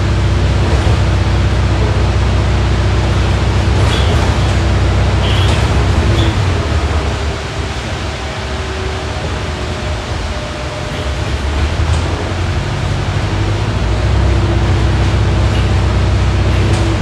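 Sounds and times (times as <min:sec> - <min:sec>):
bus drivetrain rumble: 0:00.0 - 0:17.0.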